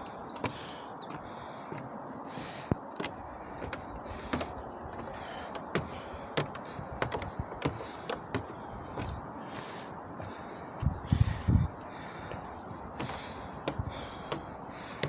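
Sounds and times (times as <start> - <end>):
footsteps climbing stairs: 0.0 - 15.0.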